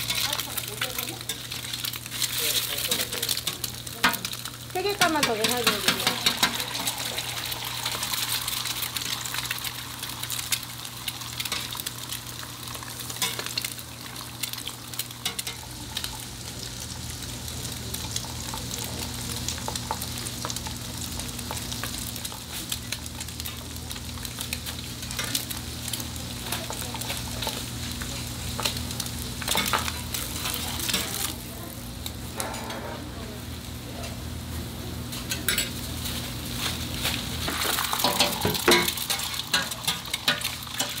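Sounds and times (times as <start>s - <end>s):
patties sizzling and crackling: 0.0s - 41.0s.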